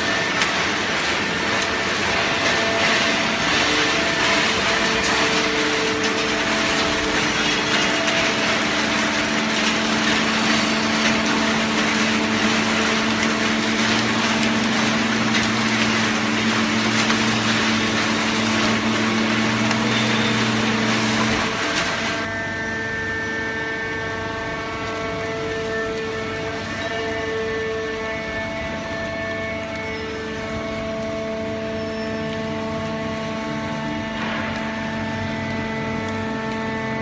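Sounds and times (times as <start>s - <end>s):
baler mechanical noise: 0.0s - 37.0s
deeper hum: 0.0s - 37.0s.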